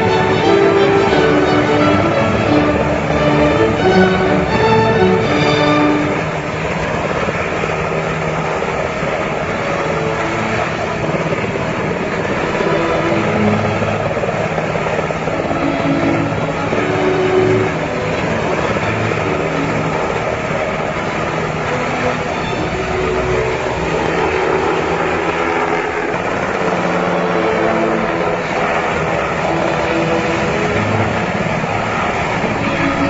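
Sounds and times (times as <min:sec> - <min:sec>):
helicopter rotor and engine drone: 0:00.0 - 0:33.0.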